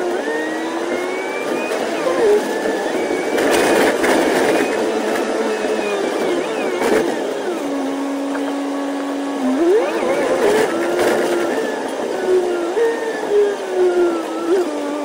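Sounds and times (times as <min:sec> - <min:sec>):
sped-up bus engine: 0:00.0 - 0:15.0.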